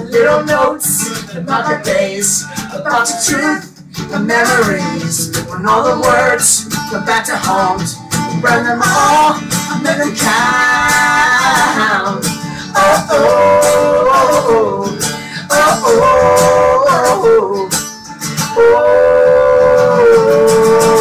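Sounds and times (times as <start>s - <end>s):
acoustic guitar strumming: 0.0s - 21.0s
person singing: 0.0s - 21.0s.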